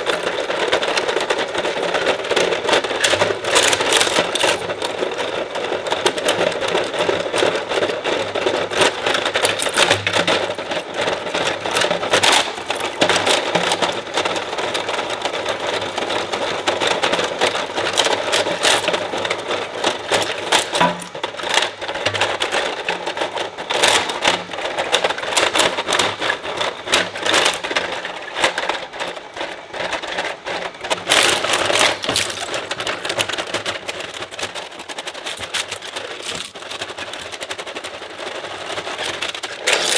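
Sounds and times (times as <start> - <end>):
blades crunching plastic: 0.0 - 39.9.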